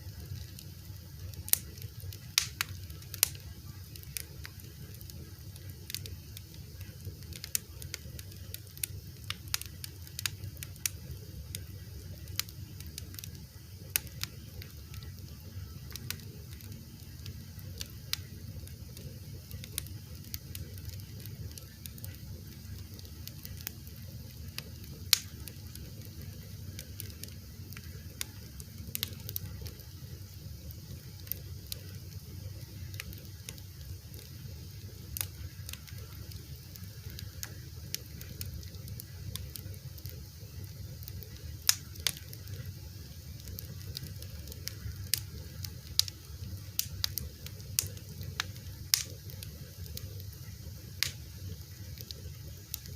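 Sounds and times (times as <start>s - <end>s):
fire crackling and popping: 0.0s - 52.9s
low steady rumble: 0.0s - 52.9s.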